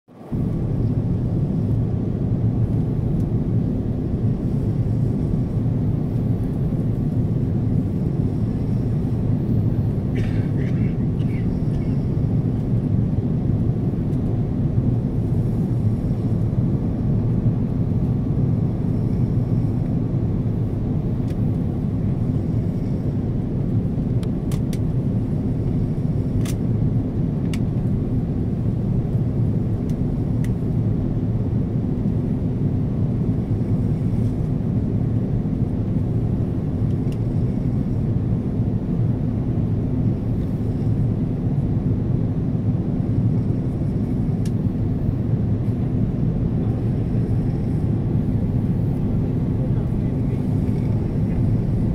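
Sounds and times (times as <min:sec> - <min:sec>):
jet engine rumble in cabin: 0:00.1 - 0:51.9.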